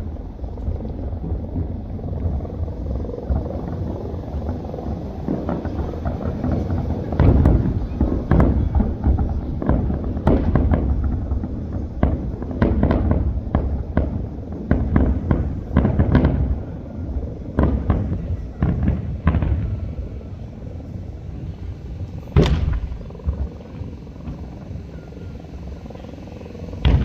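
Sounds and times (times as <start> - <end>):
low rumble: 0.0 - 25.1
fireworks bangs: 0.0 - 27.0.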